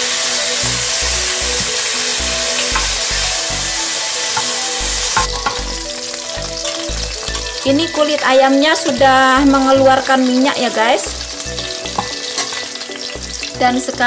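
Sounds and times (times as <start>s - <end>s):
chicken skin sizzling in pot: 0.0s - 14.0s.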